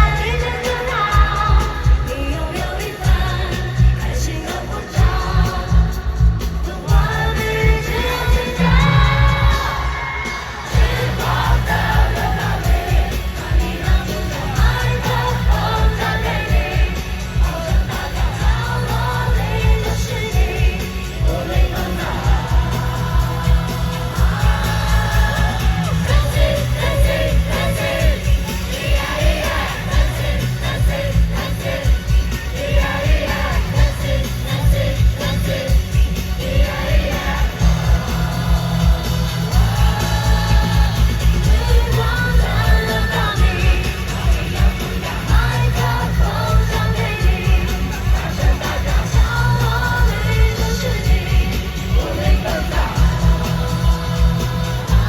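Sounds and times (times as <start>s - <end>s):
crowd noise: 0.0s - 55.0s
woman singing: 0.0s - 55.0s
dance music with pounding bass: 10.7s - 55.0s.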